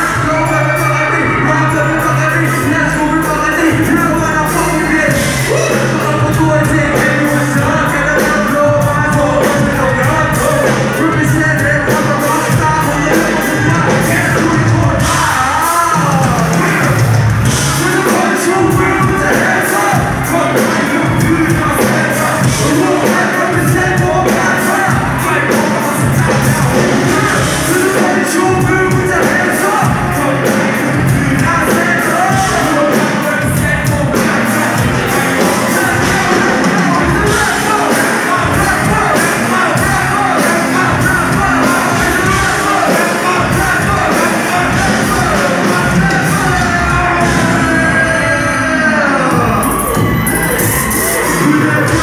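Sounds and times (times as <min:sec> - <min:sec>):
live band music: 0:00.0 - 0:52.0
person singing: 0:00.0 - 0:52.0
steady drum beat: 0:00.0 - 0:52.0.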